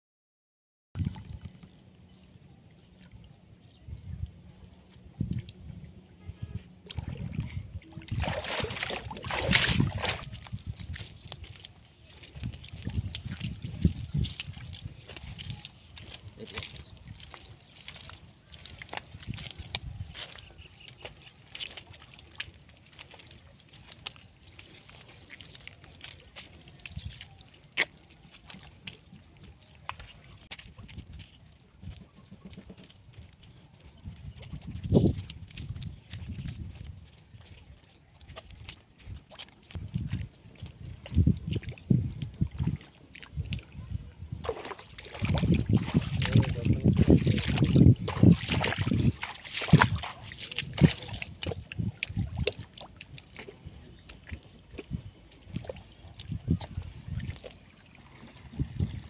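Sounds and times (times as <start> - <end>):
water sloshing and splashing: 1.0 - 59.0.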